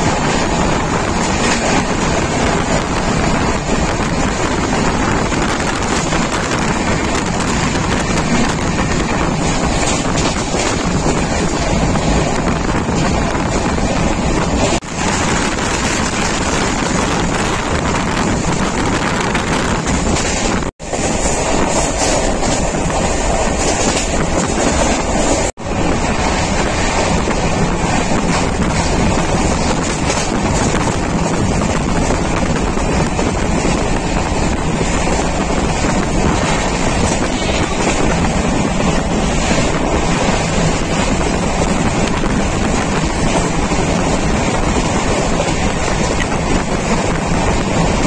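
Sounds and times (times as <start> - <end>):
train running noise: 0.0 - 48.0
wind buffeting microphone: 0.0 - 48.0.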